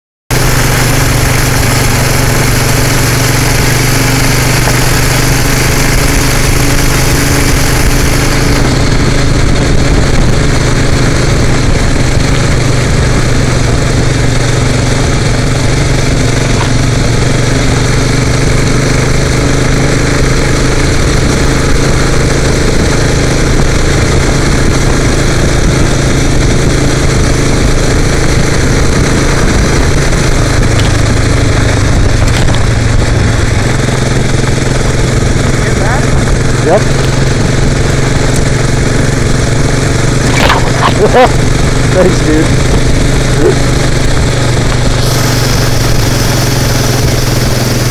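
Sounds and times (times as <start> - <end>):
tyres on gravel road: 0.3 - 47.9
vehicle engine running: 0.3 - 47.9
wind noise: 0.3 - 47.9.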